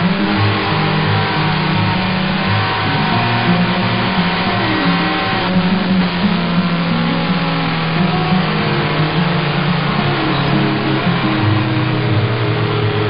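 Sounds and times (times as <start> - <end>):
background music with bass line: 0.0 - 13.0.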